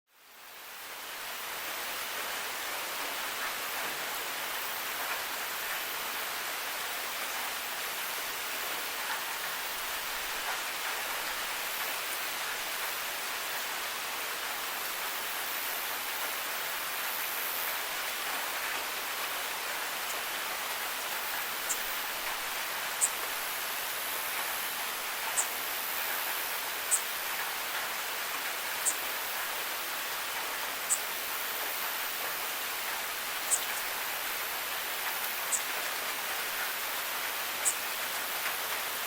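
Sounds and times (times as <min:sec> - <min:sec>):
rain falling: 0:00.1 - 0:39.0.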